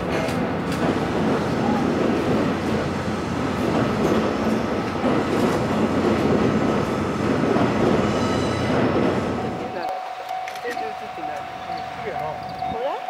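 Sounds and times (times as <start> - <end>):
train passing slowly: 0.0 - 13.0.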